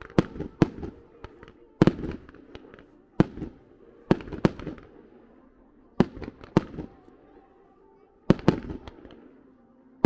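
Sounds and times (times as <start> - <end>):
small firework cracks: 0.0 - 5.3, 6.0 - 7.6, 8.3 - 9.6
fireworks bangs with echo: 0.0 - 5.4, 6.0 - 7.5, 8.2 - 9.6.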